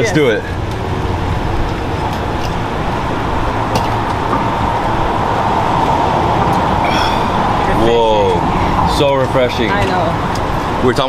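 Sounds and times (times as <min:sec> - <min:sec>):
city street traffic: 0:00.0 - 0:11.0
vehicle running close by: 0:00.0 - 0:11.0.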